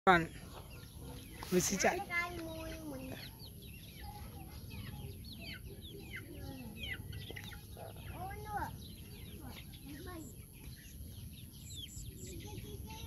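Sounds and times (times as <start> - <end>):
chickens clucking and calling: 0.1 - 13.0.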